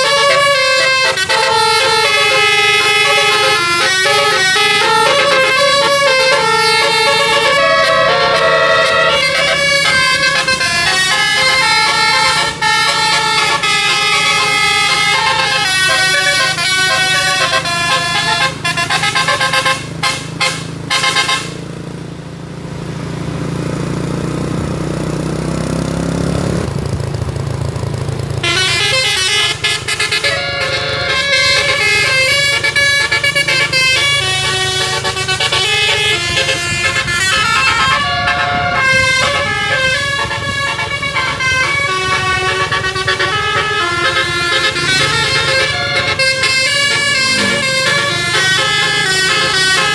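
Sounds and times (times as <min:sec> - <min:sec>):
multi-tone bus horn melody: 0:00.0 - 0:22.0, 0:28.4 - 0:49.9
bus engine revving: 0:00.0 - 0:49.9.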